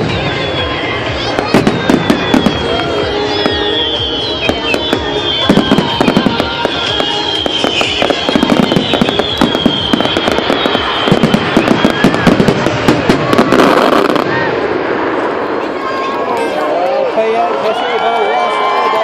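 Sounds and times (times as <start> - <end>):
fireworks crackling and banging: 0.0 - 17.8.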